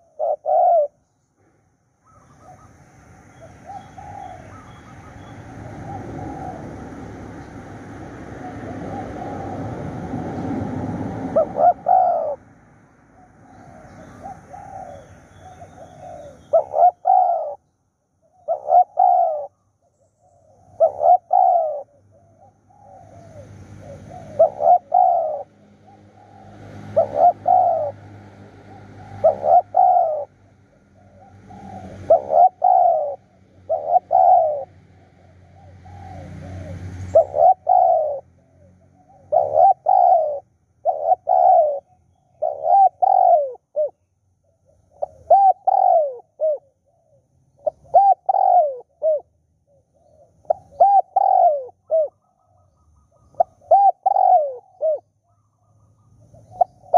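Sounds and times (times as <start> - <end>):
dove cooing: 0.0 - 12.5, 13.2 - 17.7, 18.3 - 19.6, 20.2 - 56.9.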